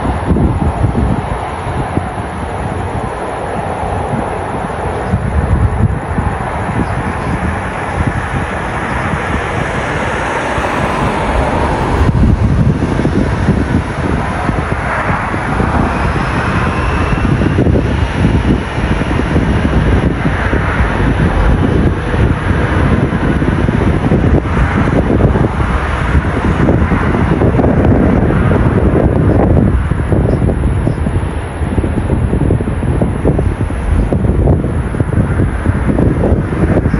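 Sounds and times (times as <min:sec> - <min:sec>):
jet engine whine: 0:00.0 - 0:36.9
jet engines roaring: 0:00.0 - 0:36.9
wind buffeting microphone: 0:00.0 - 0:36.9.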